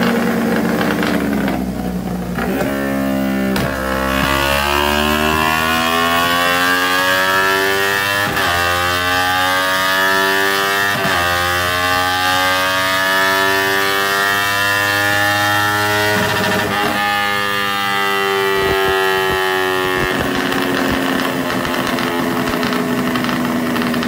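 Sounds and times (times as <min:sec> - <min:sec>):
motorcycle engine running hard: 0:00.0 - 0:24.0.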